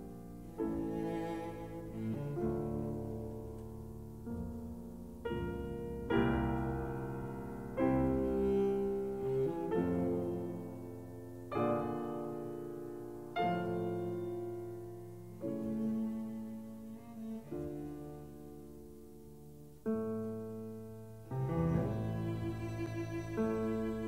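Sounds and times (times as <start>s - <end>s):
slow classical piano chords: 0.0s - 24.0s.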